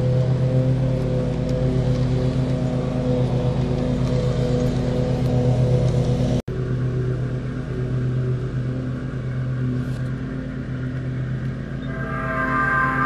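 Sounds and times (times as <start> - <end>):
model locomotive humming and pulsing: 0.0 - 13.0.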